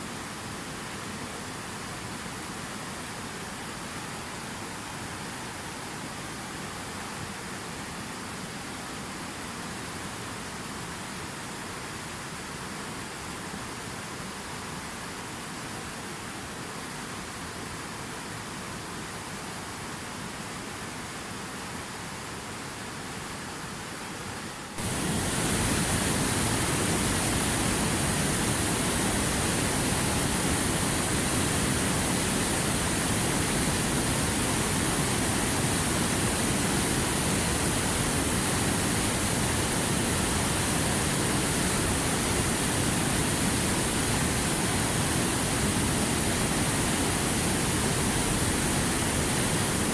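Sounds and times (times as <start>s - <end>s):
waterfall rushing water: 0.0s - 49.9s.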